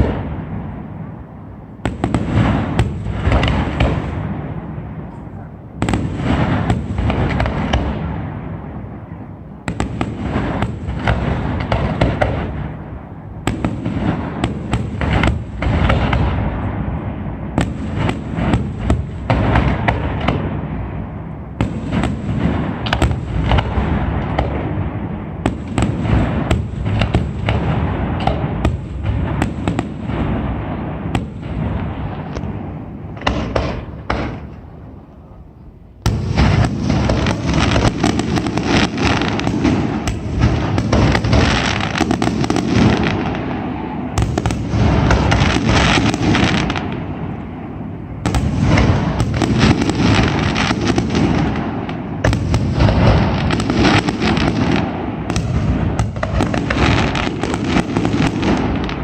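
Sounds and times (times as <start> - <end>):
firework cracks: 0.0 - 35.2, 36.0 - 59.0
deep firework booms: 0.0 - 59.0.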